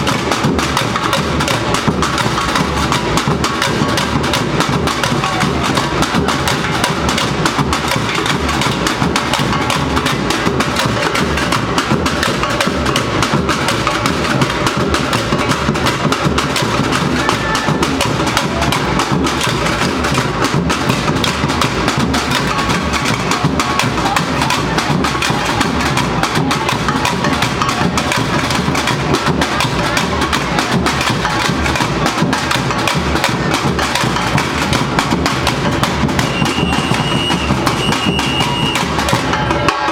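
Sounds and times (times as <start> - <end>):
fast snare drum strokes: 0.0 - 39.9
hand percussion strokes: 0.0 - 39.9.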